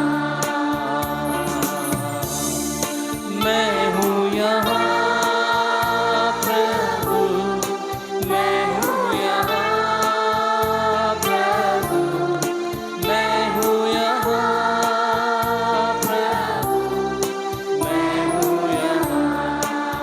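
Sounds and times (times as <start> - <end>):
choir singing a hymn: 0.0 - 20.0
instrumental accompaniment: 0.0 - 20.0.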